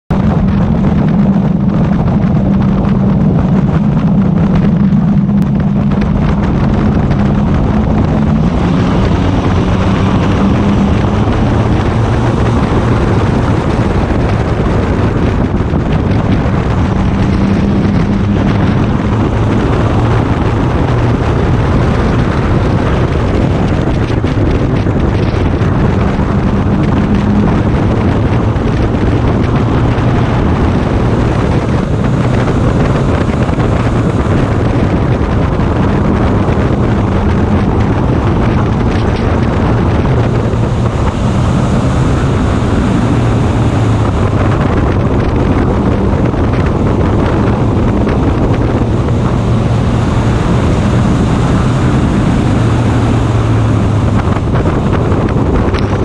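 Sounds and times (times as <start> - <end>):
wind rushing over microphone: 0.0 - 56.0
race car engine running hard: 0.1 - 56.0.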